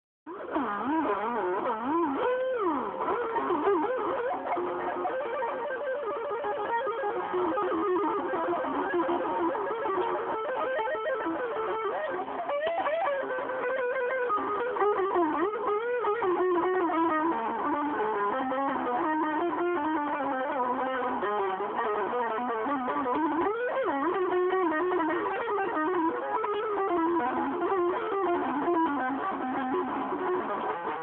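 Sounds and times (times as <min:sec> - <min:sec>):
electric guitar lead with bends: 0:00.3 - 0:31.0.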